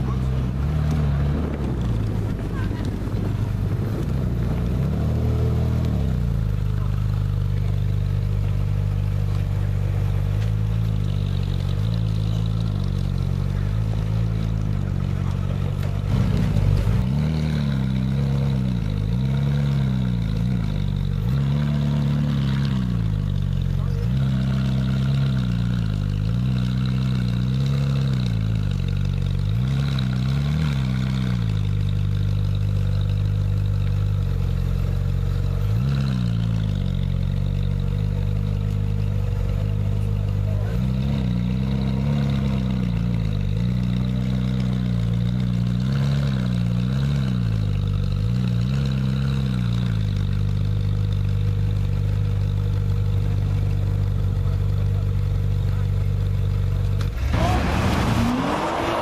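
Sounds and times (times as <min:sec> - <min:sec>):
car engine idling with throttle blips: 0:00.0 - 0:59.0.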